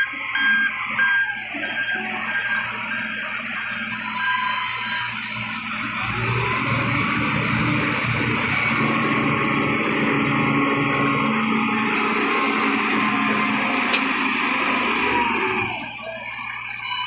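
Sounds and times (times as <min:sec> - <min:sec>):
heavy machinery engine rumbling: 0:00.0 - 0:17.0.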